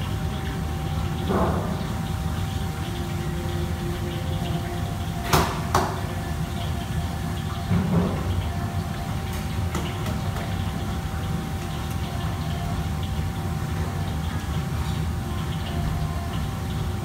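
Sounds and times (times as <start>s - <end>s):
low rumble of kitchen extraction: 0.0s - 17.0s.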